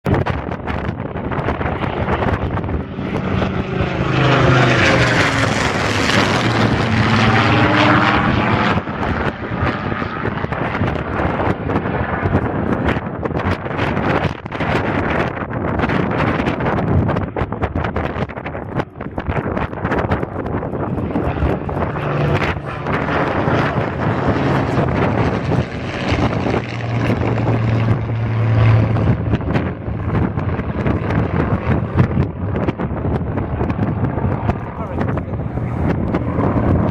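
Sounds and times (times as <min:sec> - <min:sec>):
wind buffeting microphone: 0:00.0 - 0:36.9
piston-engined planes flying past: 0:00.1 - 0:36.9.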